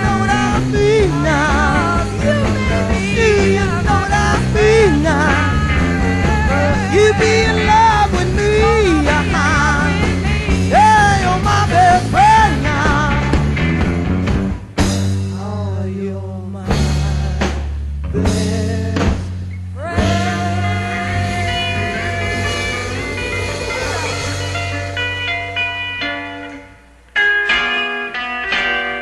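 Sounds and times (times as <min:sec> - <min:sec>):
electric lead guitar bending notes: 0:00.0 - 0:14.7, 0:18.0 - 0:29.0
bass guitar: 0:00.0 - 0:29.0
drums: 0:00.0 - 0:29.0.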